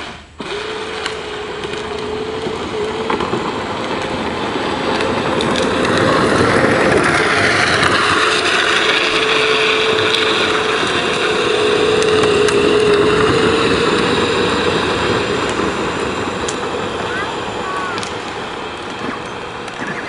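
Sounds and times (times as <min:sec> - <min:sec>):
electric motor whine: 0:00.0 - 0:20.0
plastic wheels rattling on pavement: 0:00.0 - 0:20.0.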